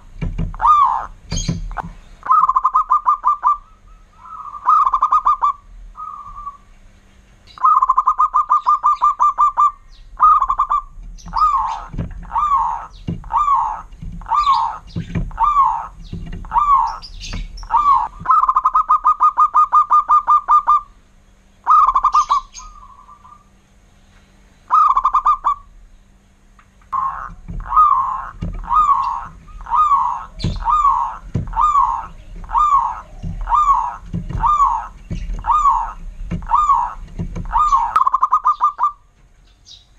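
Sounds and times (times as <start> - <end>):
dove cooing: 0.0 - 6.7, 7.6 - 21.0, 21.6 - 23.6, 24.7 - 25.7, 26.9 - 39.1.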